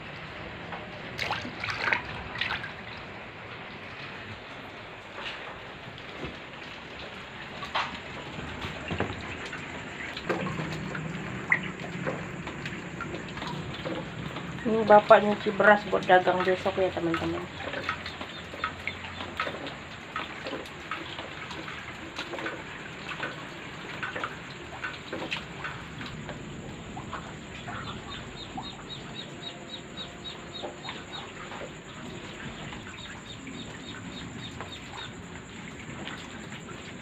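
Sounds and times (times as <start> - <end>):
steady rain: 0.0 - 37.0
water drips and splashes: 0.0 - 37.0
water sloshing in a bowl: 0.4 - 37.0.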